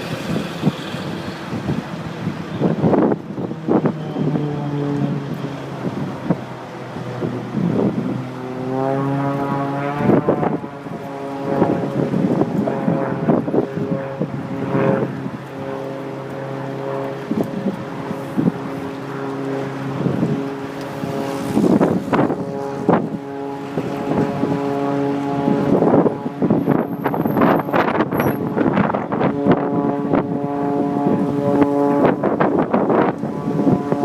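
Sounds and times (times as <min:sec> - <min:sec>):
propeller plane engine droning: 0:00.0 - 0:34.0
wind buffeting microphone: 0:00.0 - 0:34.0.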